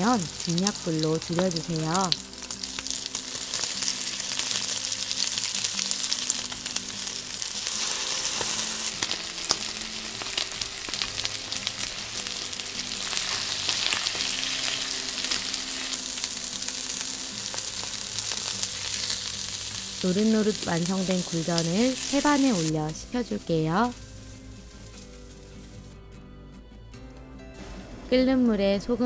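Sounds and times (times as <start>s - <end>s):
pancakes sizzling in oil: 0.0s - 22.8s, 23.8s - 26.0s.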